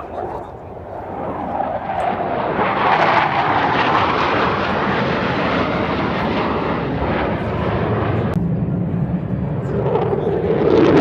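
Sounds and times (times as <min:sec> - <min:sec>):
aircraft engine rushing: 0:00.0 - 0:11.0.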